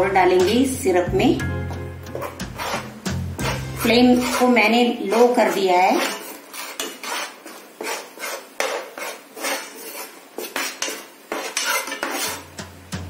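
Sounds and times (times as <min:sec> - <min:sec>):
spoon scraping a pan: 0:00.3 - 0:00.8, 0:02.0 - 0:12.6.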